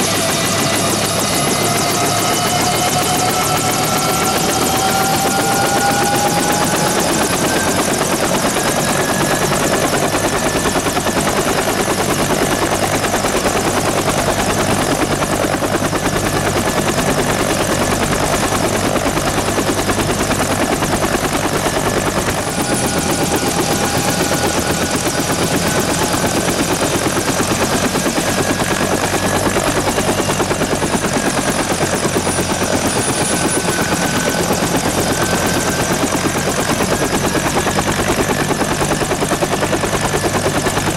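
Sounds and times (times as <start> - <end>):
helicopter rotor beating: 0.0 - 40.9
turbine engine whine: 0.0 - 40.9.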